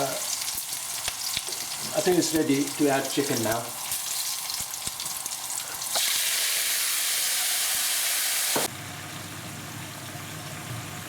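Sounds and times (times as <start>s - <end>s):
hot oil crackling in a pan: 0.0s - 11.0s
loud sizzle of meat in oil: 0.0s - 11.0s.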